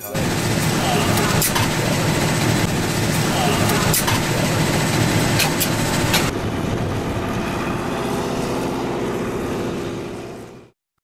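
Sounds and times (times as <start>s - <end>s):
turboprop engines running: 0.0s - 10.8s.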